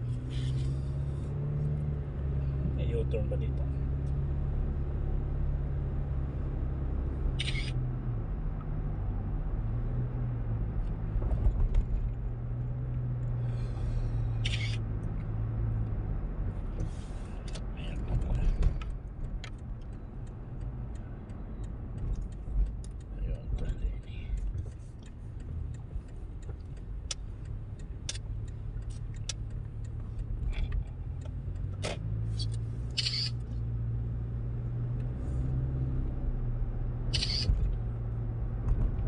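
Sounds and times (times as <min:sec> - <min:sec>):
car engine hum: 0:00.0 - 0:39.0
road noise: 0:00.0 - 0:39.0.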